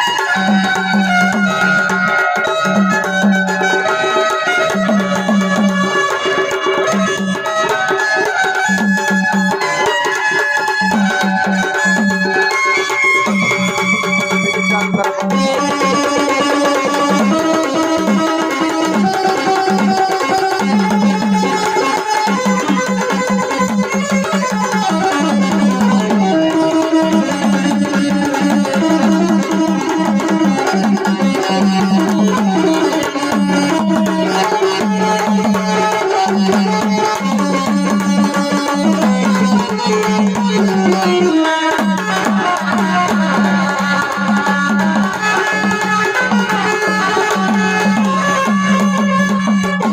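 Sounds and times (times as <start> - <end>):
instrumental melody: 0.0 - 49.9
tabla rhythm: 0.0 - 49.9.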